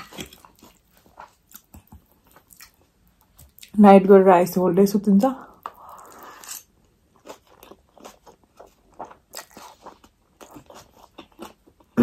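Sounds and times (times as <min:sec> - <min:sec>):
chewing with clicks and crunches: 0:00.0 - 0:03.8, 0:05.5 - 0:12.0.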